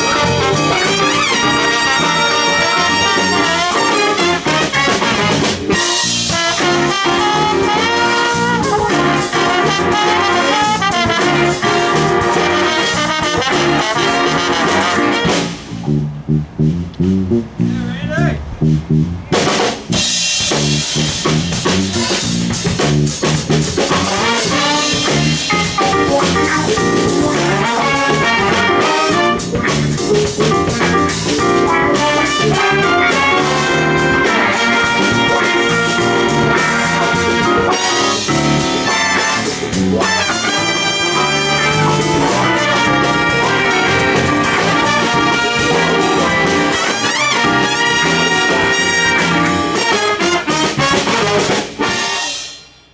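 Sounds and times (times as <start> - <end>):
jazz big band playing: 0.0 - 52.9.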